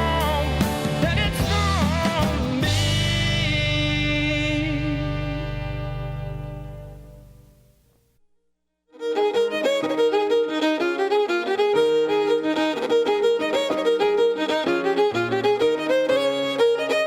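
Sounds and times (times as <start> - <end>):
fiddle-led instrumental tune: 0.0 - 7.2, 8.9 - 17.0.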